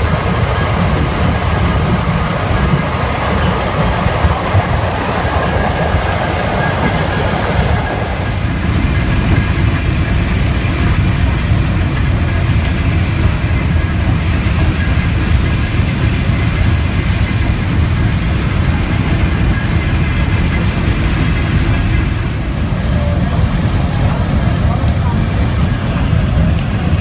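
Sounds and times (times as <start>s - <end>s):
rack train rumbling: 0.0s - 27.0s.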